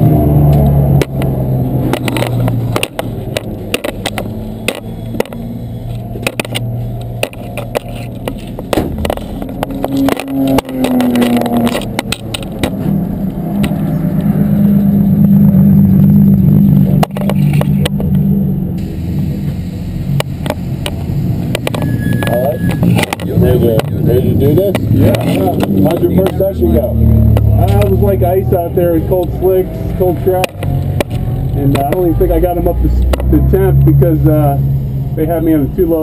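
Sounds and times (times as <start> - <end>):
race car engine running: 0.0 - 36.0.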